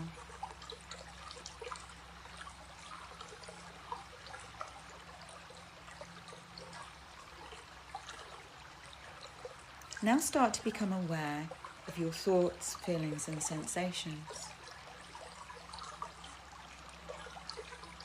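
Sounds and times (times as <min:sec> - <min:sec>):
stream trickling and babbling: 0:00.0 - 0:18.0.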